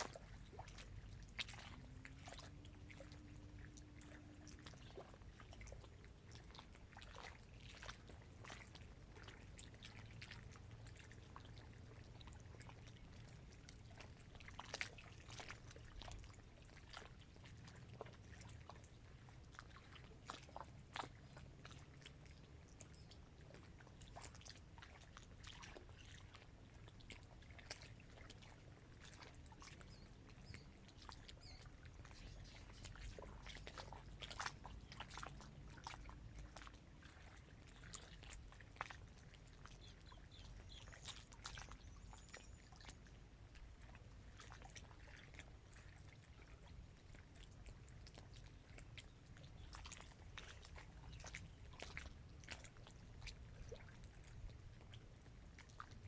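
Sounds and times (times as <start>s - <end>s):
little splashes and clicks: 0.0s - 56.0s
small waves lapping: 0.0s - 56.0s.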